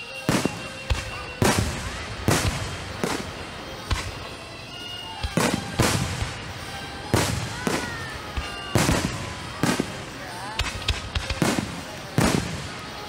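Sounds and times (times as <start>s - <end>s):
fireworks booming with echo: 0.0s - 13.0s.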